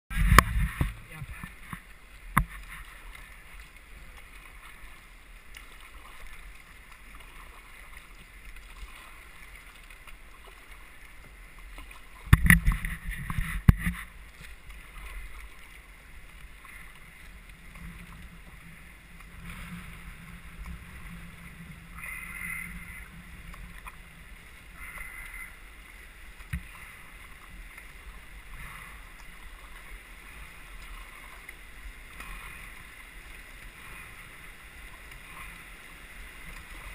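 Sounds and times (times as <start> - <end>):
paddle strokes splashing: 0.1 - 36.9
water lapping around canoe hull: 0.1 - 36.9.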